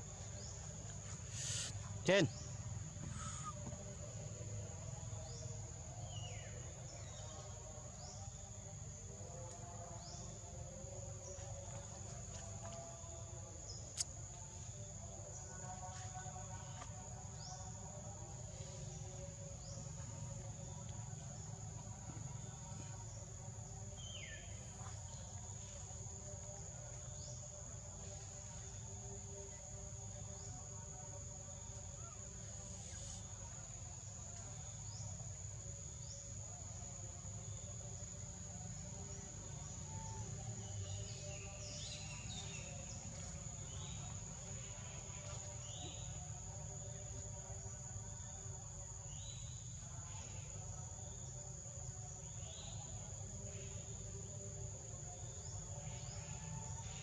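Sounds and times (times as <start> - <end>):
insect drone: 0.0 - 57.0.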